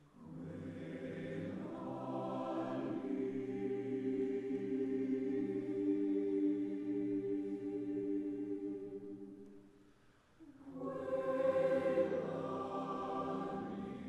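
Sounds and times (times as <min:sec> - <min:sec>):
mixed choir singing: 0:00.2 - 0:09.4, 0:10.6 - 0:14.0.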